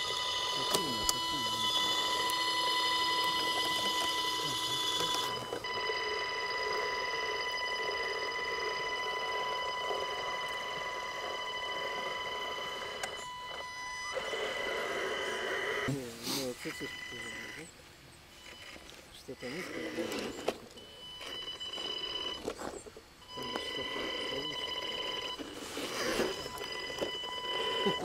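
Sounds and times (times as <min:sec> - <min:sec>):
electric motor whining: 0:00.0 - 0:17.7, 0:18.3 - 0:28.0.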